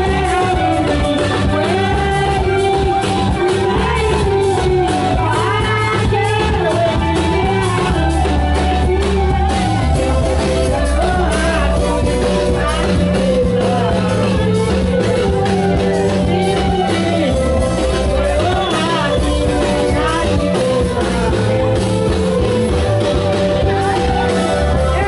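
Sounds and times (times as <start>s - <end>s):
amplified backing with low bass: 0.0s - 25.0s
women singing through loudspeakers: 0.0s - 25.0s.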